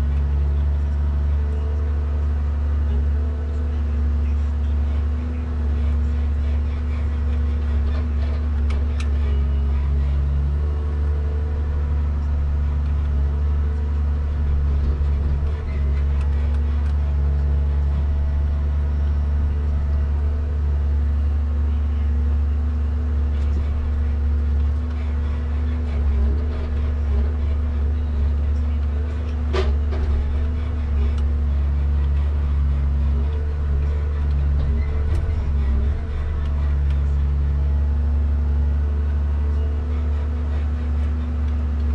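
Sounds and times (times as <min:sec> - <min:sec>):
diesel engine drone: 0:00.0 - 0:41.9
hydraulic humming tone: 0:00.0 - 0:41.9.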